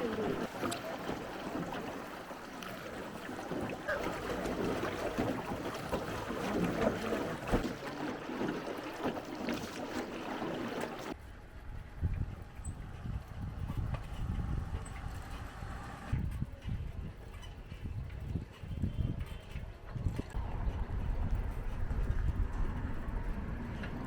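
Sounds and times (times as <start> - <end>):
water splashing around boat: 0.0 - 11.2, 12.0 - 24.0.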